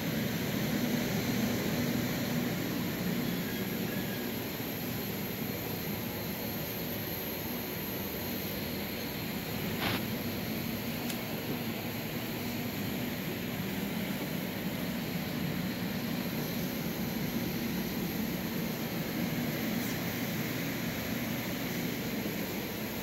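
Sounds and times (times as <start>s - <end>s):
dust collector droning: 0.0s - 23.0s.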